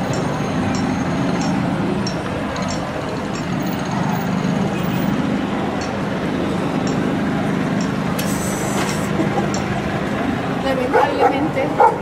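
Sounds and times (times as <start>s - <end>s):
low engine hum: 0.0s - 12.0s
traffic rumble: 0.0s - 12.0s.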